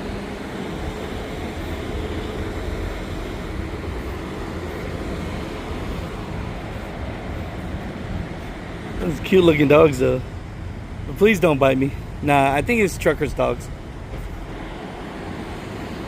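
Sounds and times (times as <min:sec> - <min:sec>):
traffic rumble and hiss: 0:00.0 - 0:16.0.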